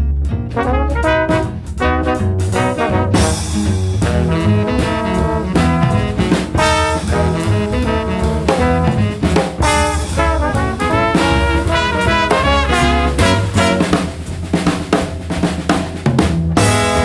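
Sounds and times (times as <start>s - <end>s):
brass tune: 0.0s - 15.6s, 16.4s - 17.0s
drum kit: 0.0s - 17.0s.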